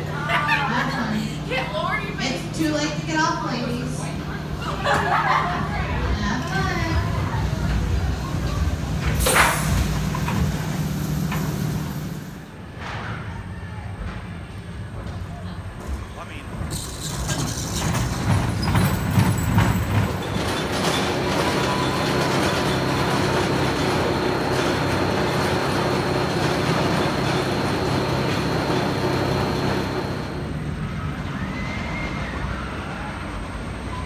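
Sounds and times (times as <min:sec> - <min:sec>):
roller coaster chain lift running: 0:00.0 - 0:13.0, 0:14.0 - 0:34.0.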